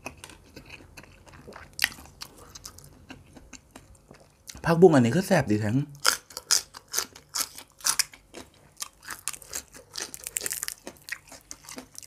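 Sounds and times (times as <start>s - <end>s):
crisp crunches of chewing: 0.0s - 4.3s, 6.0s - 12.0s.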